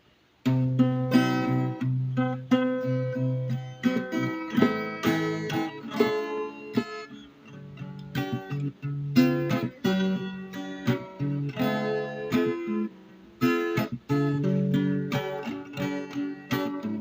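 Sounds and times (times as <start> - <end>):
acoustic guitar strumming and plucking: 0.4 - 17.0.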